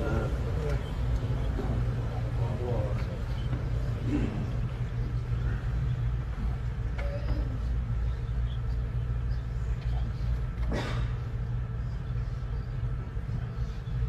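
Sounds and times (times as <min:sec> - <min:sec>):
faint indistinct voice: 0:00.0 - 0:14.0
low room rumble: 0:00.0 - 0:14.0.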